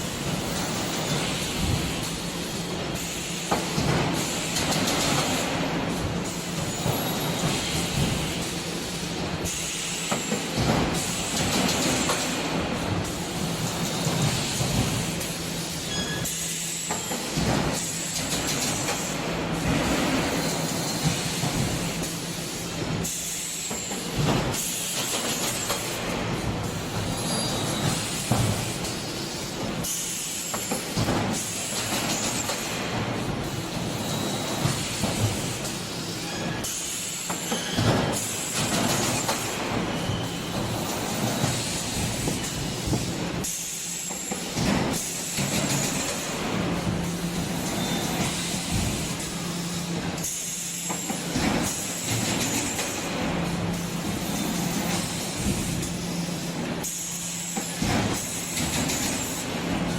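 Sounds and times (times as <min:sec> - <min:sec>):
production line machinery humming: 0:00.0 - 0:59.9.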